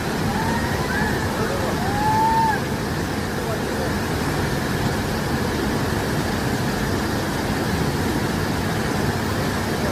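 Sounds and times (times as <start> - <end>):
waterfall roaring: 0.0 - 9.9.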